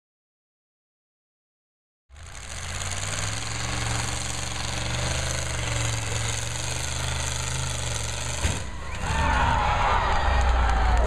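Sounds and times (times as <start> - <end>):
car engine choppy rumble: 2.1 - 11.0.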